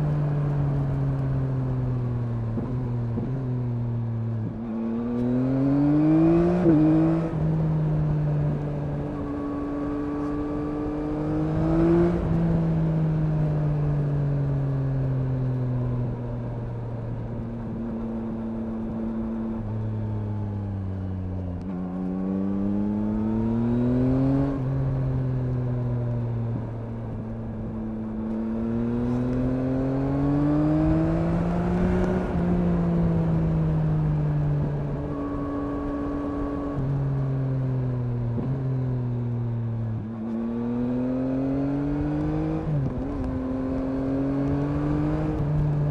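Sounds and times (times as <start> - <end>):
motorcycle engine revving: 0.0 - 15.6, 20.9 - 45.9
wind and road rumble: 0.0 - 45.9.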